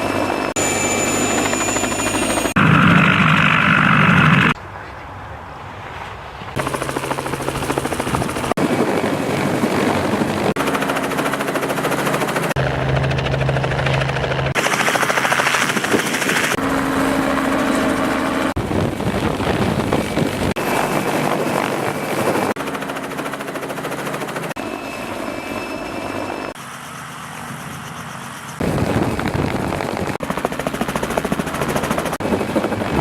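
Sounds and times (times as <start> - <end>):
helicopter rotor and engine: 0.0 - 4.6, 6.5 - 33.0.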